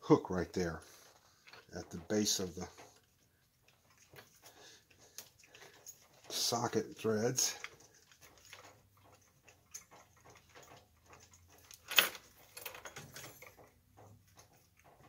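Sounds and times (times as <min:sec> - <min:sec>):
wire handling clicks and rustles: 0:00.6 - 0:15.0.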